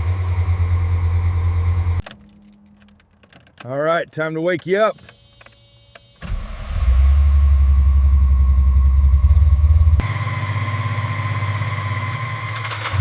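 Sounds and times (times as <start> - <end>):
car engine starting and running: 0.0 - 3.6, 6.0 - 13.0.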